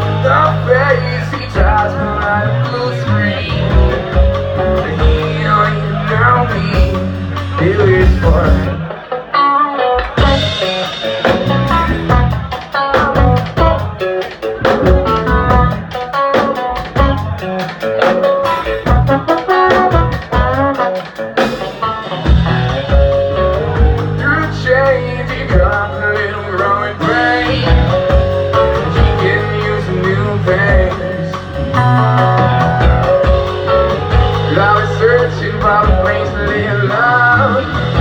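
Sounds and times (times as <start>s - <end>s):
band playing a song: 0.0s - 38.0s
person singing: 0.0s - 38.0s.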